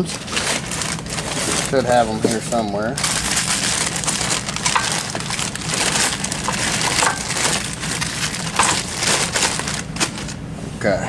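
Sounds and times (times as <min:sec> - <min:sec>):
rustling and crackling: 0:00.0 - 0:10.4
small parts clattering: 0:00.2 - 0:10.4.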